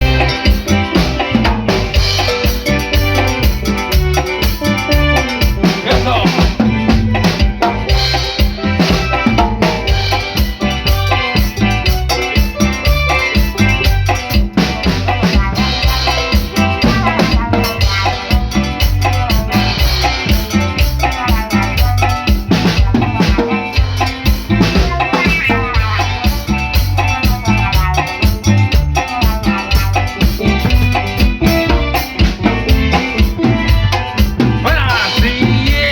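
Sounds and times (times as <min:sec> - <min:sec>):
drum kit beat: 0:00.0 - 0:35.9
pitched instruments playing: 0:00.0 - 0:35.9.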